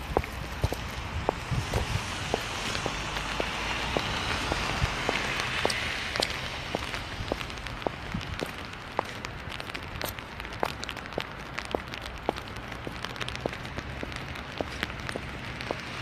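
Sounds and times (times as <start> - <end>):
footsteps on wet pavement: 0.0 - 16.0
steady rain falling: 0.0 - 16.0.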